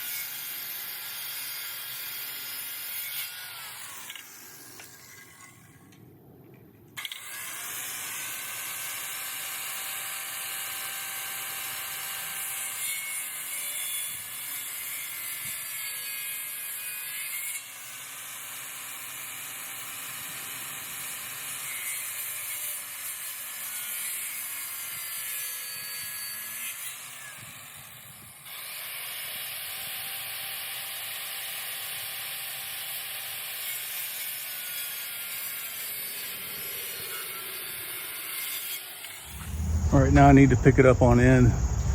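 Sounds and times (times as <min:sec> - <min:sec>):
circular saw cutting wood: 0:00.0 - 0:05.7, 0:07.0 - 0:41.9.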